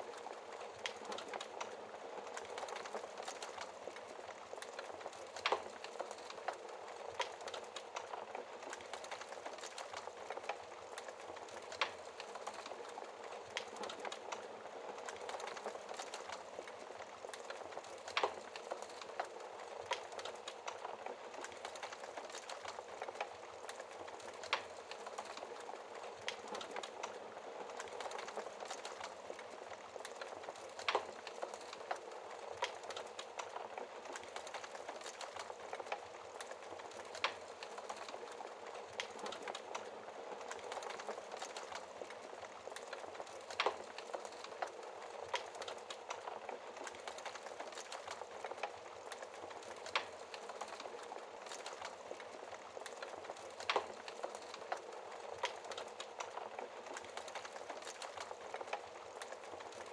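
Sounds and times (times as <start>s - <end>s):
wood fire crackling and hissing: 0.0s - 59.9s
fire pops: 4.6s - 59.9s.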